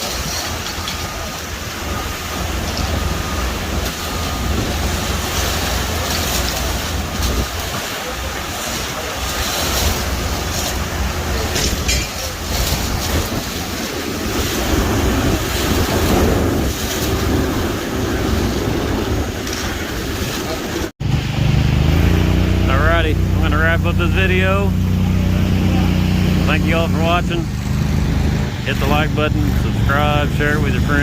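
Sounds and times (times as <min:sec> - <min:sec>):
constant rushing noise: 0:00.0 - 0:31.0
truck engine rumbling: 0:00.0 - 0:31.0.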